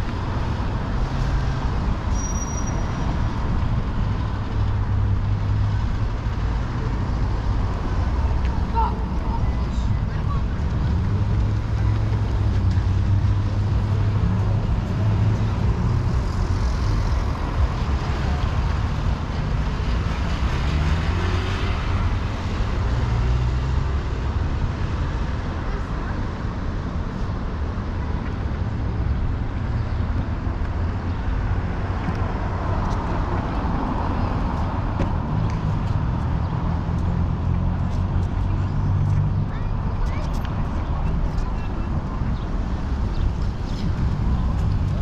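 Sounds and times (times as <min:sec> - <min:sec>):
street traffic rumble: 0:00.0 - 0:45.0.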